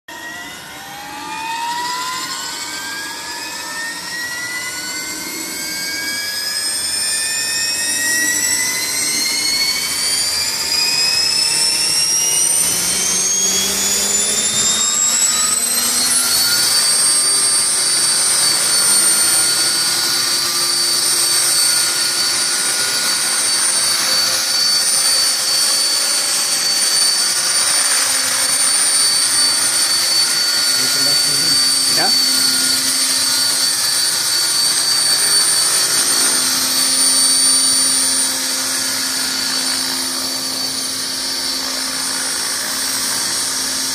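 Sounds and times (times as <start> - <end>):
rc helicopter motor whine: 0.1 - 43.9.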